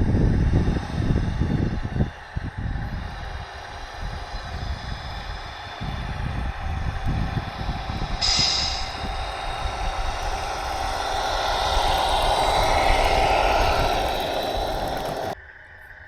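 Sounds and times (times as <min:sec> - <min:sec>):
electric motor whining: 0:00.0 - 0:15.4.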